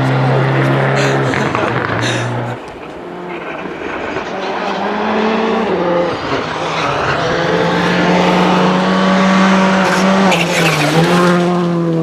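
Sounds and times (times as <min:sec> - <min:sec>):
rally car engine approaching: 0:00.0 - 0:12.0.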